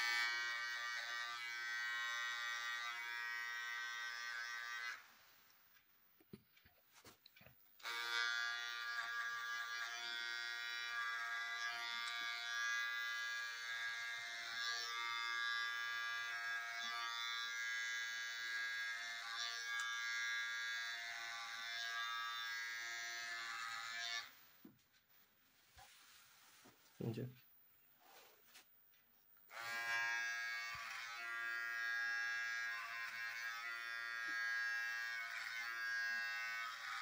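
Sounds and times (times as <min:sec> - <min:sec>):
hair trimmer buzzing: 0:00.0 - 0:05.3, 0:07.8 - 0:24.6, 0:29.5 - 0:37.0.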